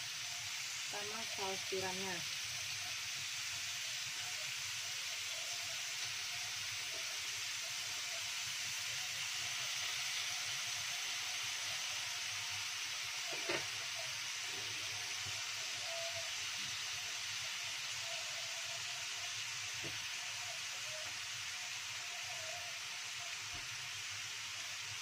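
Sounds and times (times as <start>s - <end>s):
vegetables sizzling in a wok: 0.0s - 25.0s.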